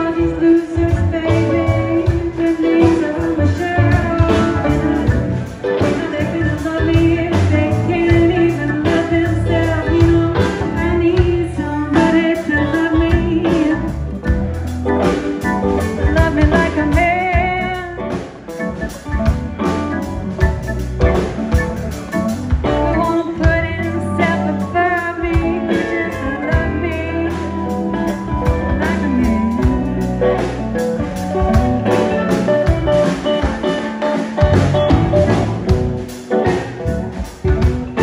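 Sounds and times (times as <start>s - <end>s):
person singing: 0.0s - 14.3s, 15.7s - 19.8s, 22.6s - 35.4s
blues band playing: 0.0s - 38.0s.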